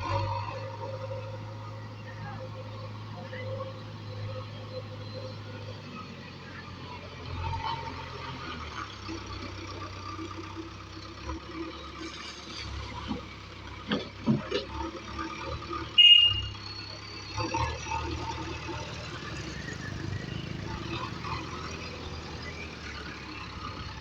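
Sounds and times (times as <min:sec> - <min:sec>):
backhoe diesel engine running: 0:00.0 - 0:24.0.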